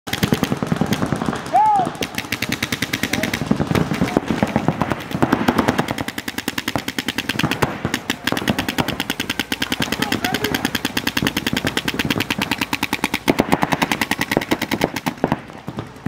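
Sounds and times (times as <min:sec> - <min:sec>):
paintball markers firing: 0:00.1 - 0:16.0.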